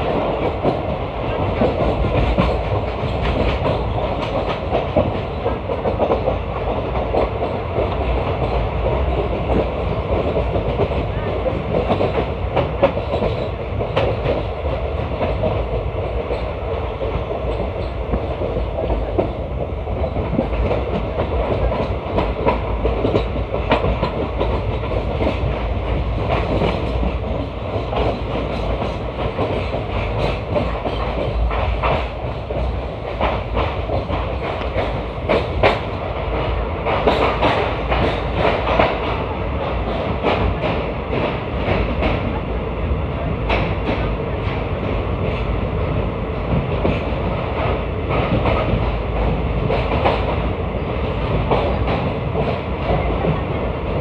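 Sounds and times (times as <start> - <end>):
clickety-clack over rail joints: 0.0 - 54.0
train wheels rumbling on track: 0.0 - 54.0.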